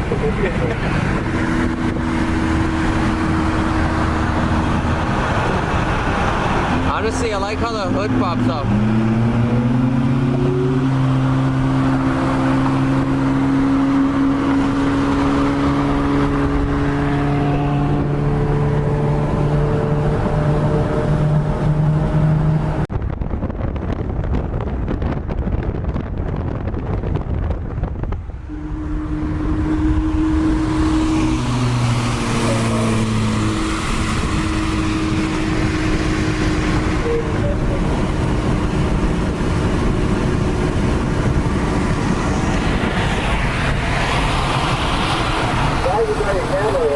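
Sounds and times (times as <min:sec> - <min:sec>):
car exhaust droning: 0:00.0 - 0:46.9
road noise rush: 0:00.0 - 0:46.9.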